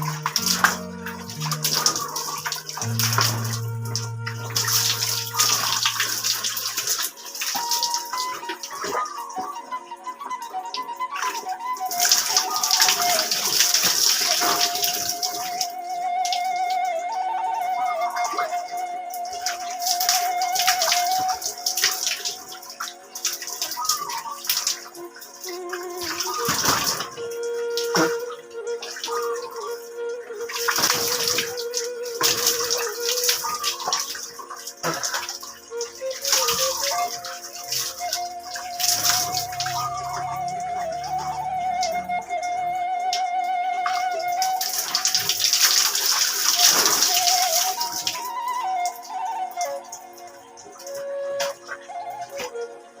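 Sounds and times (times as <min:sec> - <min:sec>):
background music with held notes: 0:00.0 - 0:53.0
water pouring and splashing: 0:00.0 - 0:53.0.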